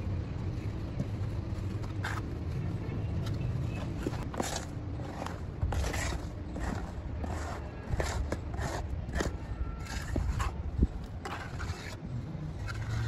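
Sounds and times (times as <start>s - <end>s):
trowel scraping and tapping cement: 0.9s - 2.4s, 3.2s - 12.0s, 12.6s - 13.0s.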